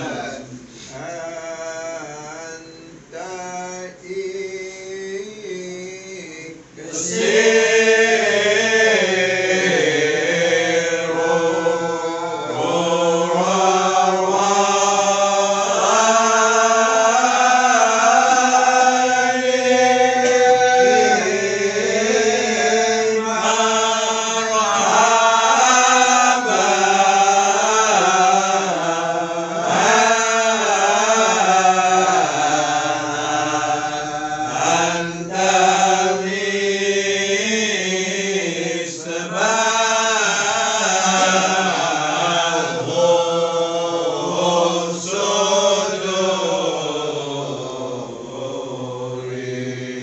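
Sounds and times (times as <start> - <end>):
men chanting devotional verses: 0.0 - 50.0.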